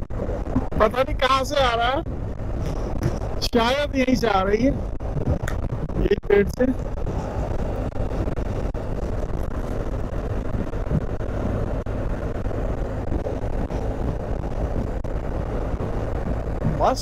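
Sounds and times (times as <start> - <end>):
motorcycle engine rumble: 0.0 - 17.0
wind against rider: 0.0 - 17.0.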